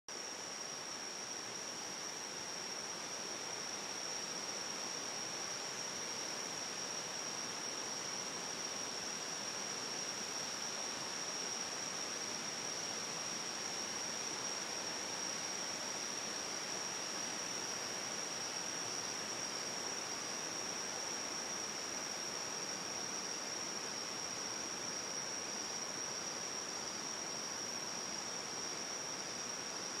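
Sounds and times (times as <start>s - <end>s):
forest noise hiss: 0.1s - 30.0s.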